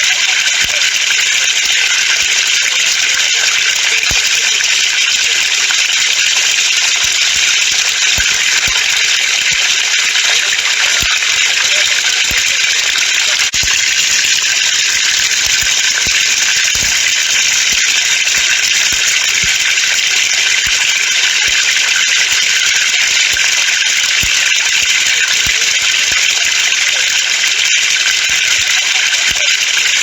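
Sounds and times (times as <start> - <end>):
water stream splashing from pipe: 0.0 - 30.0.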